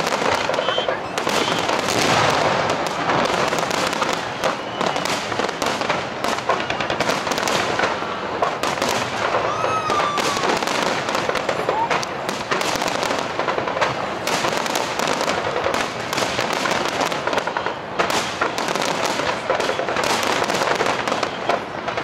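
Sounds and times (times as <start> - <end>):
firework crackling and popping: 0.0 - 22.0.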